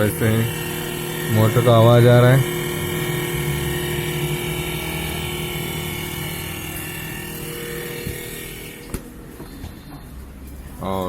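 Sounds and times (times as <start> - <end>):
fan motor whirring rattle: 0.0 - 11.0.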